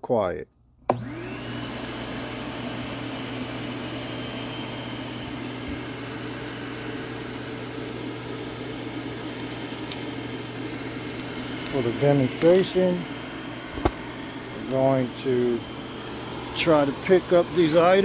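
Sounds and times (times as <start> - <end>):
shop vacuum running: 0.9 - 18.0.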